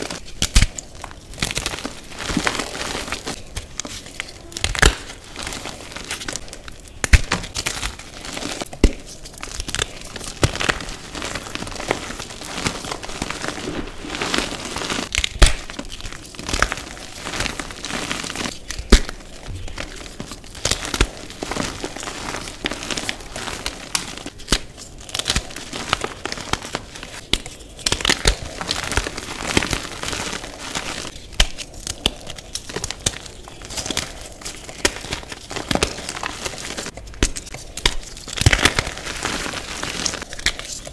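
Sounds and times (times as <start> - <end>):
chalk pieces snapping: 0.0 - 13.9, 14.8 - 40.9
chalk crunching by hand: 1.4 - 40.9.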